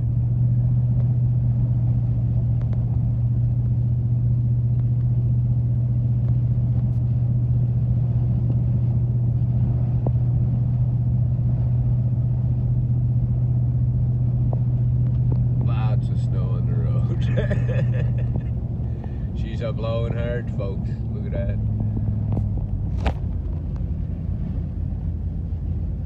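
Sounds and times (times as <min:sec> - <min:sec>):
car engine hum: 0:00.0 - 0:26.0
tyre noise on snowy road: 0:00.0 - 0:26.0.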